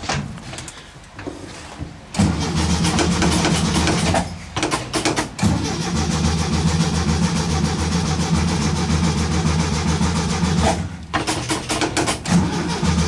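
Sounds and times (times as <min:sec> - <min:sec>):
starter motor cranking engine: 0:02.1 - 0:13.0.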